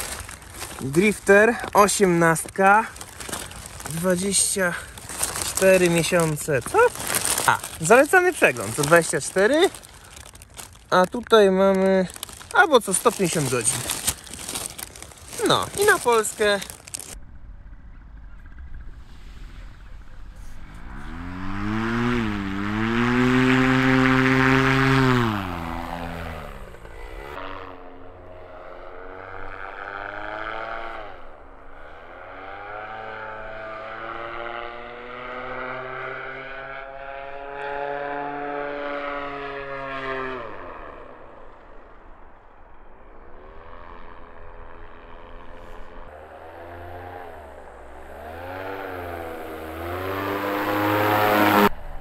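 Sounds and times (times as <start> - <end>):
paramotor engine and propeller: 0.0 - 52.0.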